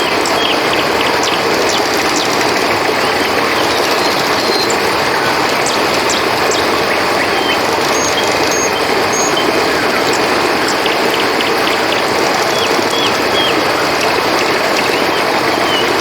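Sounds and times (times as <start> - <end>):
high chirps and whistles: 0.0 - 4.8, 5.6 - 13.6
river rushing: 0.0 - 16.0.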